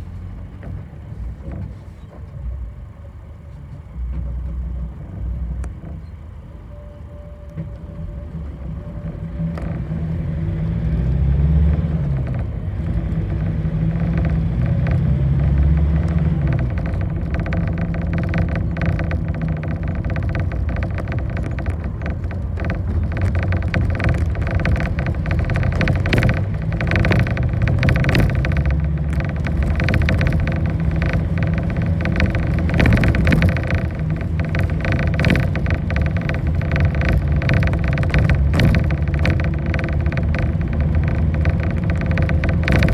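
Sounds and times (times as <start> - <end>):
bus body rattling: 0.0 - 42.9
bus engine accelerating: 0.0 - 42.9.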